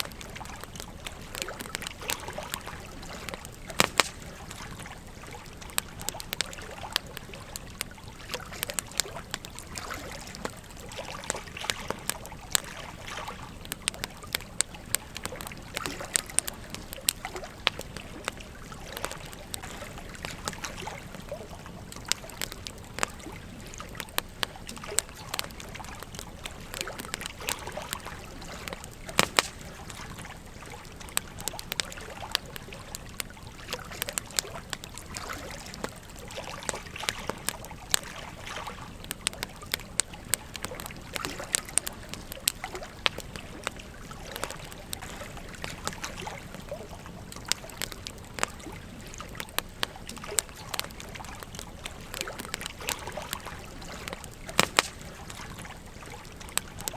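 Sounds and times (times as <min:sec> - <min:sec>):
campfire crackling and popping: 0:00.0 - 0:56.9
gentle stream flowing: 0:00.0 - 0:56.9.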